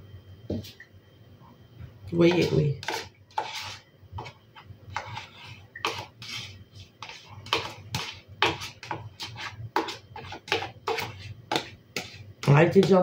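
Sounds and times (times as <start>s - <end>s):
plastic spatula scraping tub: 2.3s - 13.0s.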